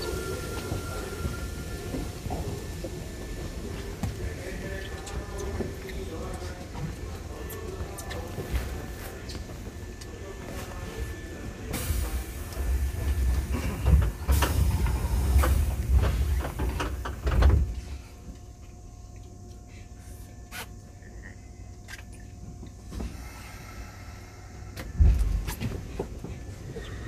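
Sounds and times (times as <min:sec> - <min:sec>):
train rumbling with clatter: 0:00.0 - 0:18.6, 0:22.4 - 0:27.0
steady train hum: 0:00.0 - 0:27.0.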